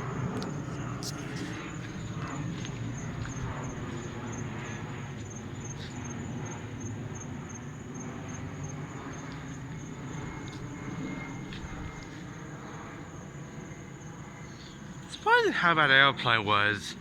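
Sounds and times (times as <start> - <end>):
crickets chirping: 0.0 - 17.0
distant airplane rumble: 0.0 - 17.0.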